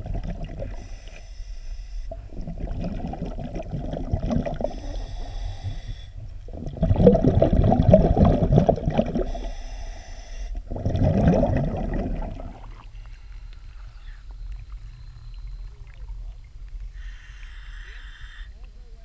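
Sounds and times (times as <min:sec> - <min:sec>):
underwater air bubbling: 0:00.0 - 0:18.2.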